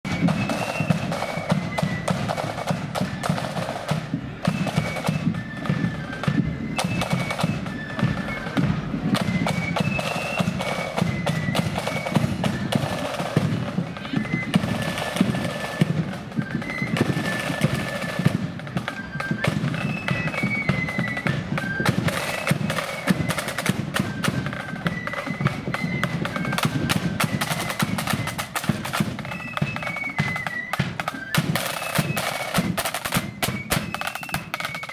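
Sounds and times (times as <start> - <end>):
flutes playing melody: 0.0 - 34.9
rapid snare drumming: 0.0 - 34.9.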